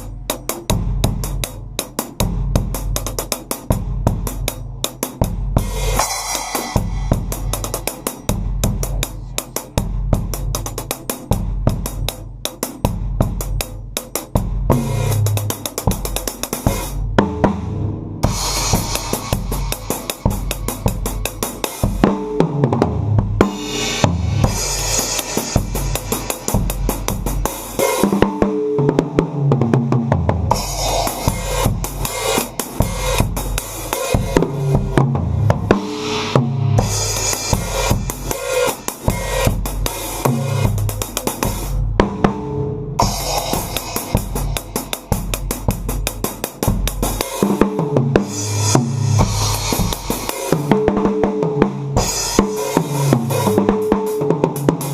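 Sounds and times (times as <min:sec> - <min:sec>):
acoustic drum kit groove: 0:00.0 - 0:54.9.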